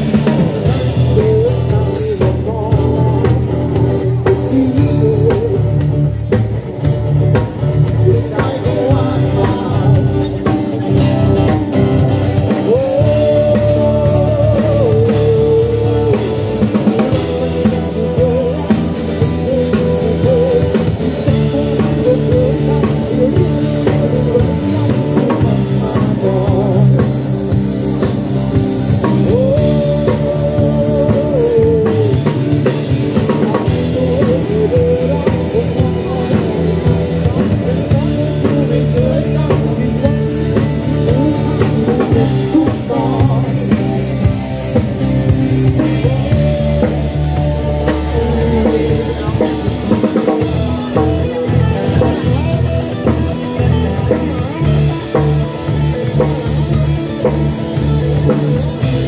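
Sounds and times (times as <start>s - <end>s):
bass guitar: 0.0s - 59.0s
drum kit: 0.0s - 59.0s
electric guitars: 0.0s - 59.0s.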